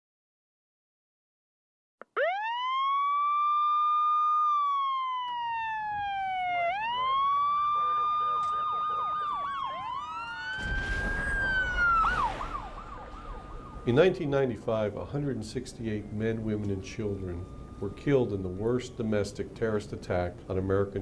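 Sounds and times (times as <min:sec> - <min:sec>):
fast cycling siren: 0:02.0 - 0:19.9
siren wailing: 0:02.0 - 0:19.9.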